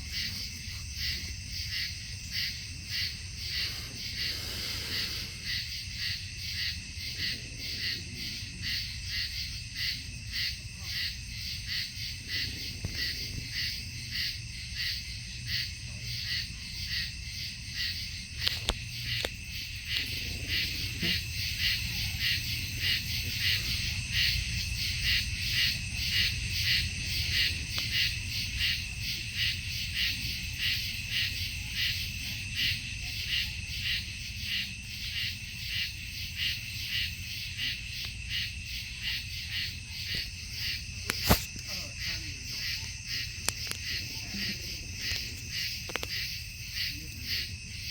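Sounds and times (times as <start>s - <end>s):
night insects chirring: 0.0s - 47.9s.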